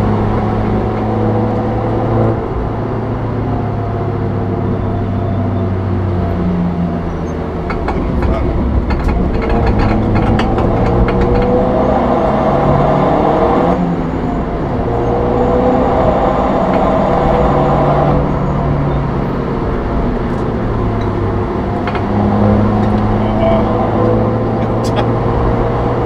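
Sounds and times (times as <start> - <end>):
car engine accelerating: 0.0 - 26.0
road noise: 0.0 - 26.0.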